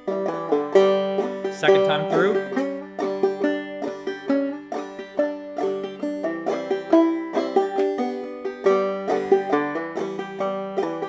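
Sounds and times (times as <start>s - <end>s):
banjo playing: 0.0s - 11.0s.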